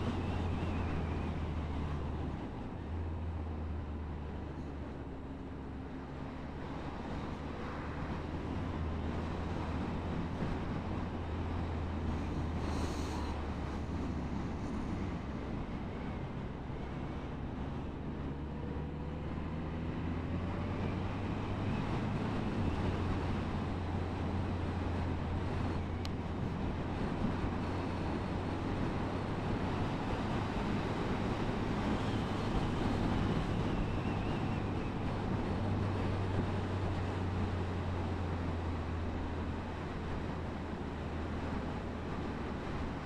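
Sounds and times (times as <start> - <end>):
wind and road noise: 0.0 - 43.0.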